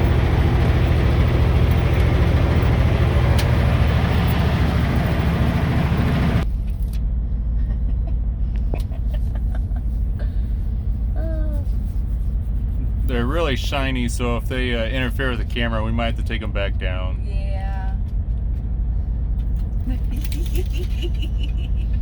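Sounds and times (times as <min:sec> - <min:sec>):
low rumble: 0:00.0 - 0:22.0
vehicle engine hum: 0:00.0 - 0:22.0
wind and road noise: 0:00.0 - 0:22.0.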